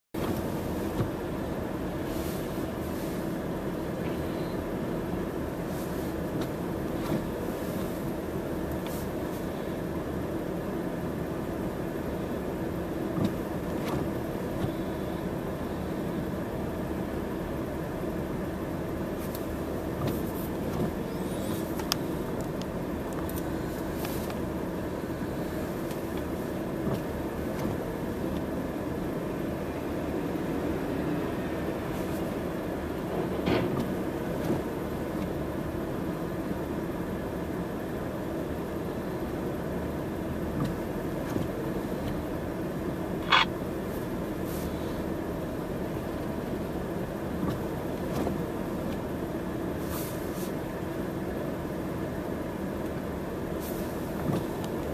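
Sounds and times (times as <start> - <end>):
vehicle engine running: 0.2 - 54.9.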